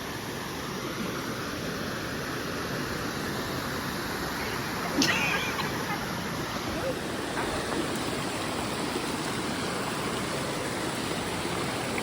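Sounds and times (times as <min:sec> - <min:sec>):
waterfall rushing: 0:02.2 - 0:12.0.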